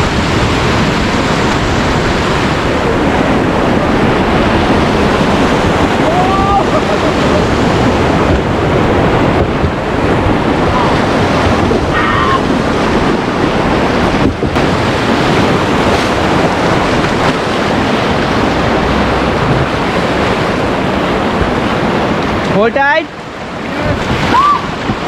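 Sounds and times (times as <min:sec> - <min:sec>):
rushing river whitewater: 0:00.0 - 0:25.0
wind buffeting microphone: 0:00.0 - 0:25.0.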